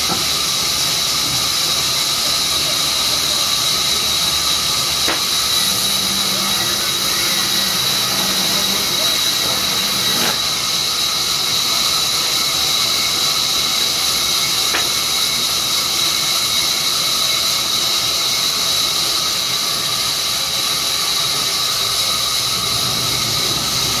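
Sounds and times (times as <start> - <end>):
band saw whining: 0.0 - 24.0.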